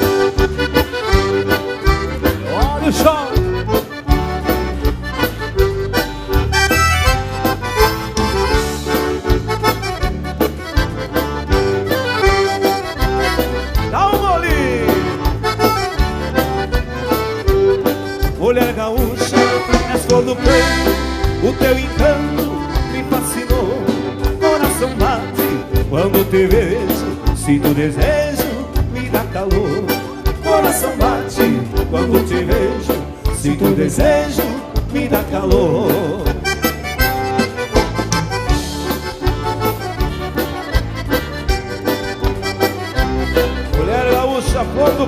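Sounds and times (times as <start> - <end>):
accordion melody: 0.0 - 45.0
bass and drum beat: 0.0 - 45.0
keyboard solo: 0.0 - 45.0.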